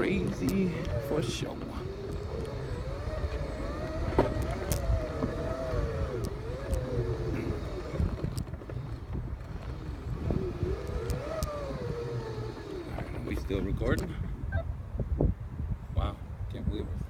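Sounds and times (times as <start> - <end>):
electric drive whining: 0.0 - 14.5
scattered clicks: 0.1 - 14.1.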